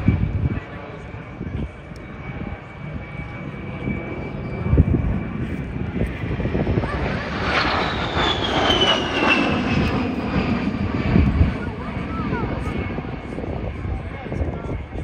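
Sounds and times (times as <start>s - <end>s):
aircraft engine passing by: 0.0s - 15.0s.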